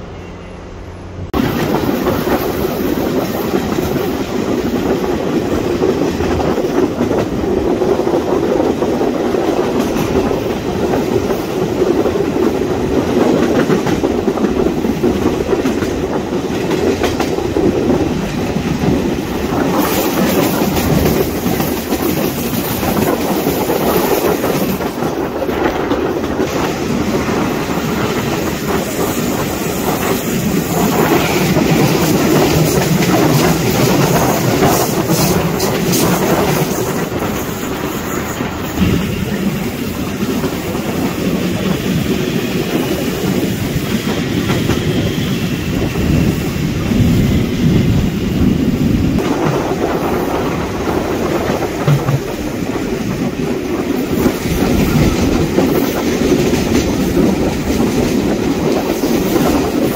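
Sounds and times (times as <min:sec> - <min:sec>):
passing electric train: 0:00.0 - 0:59.9
train rumbling on rails: 0:00.0 - 0:59.9
wheels clacking on track: 0:01.3 - 0:59.9.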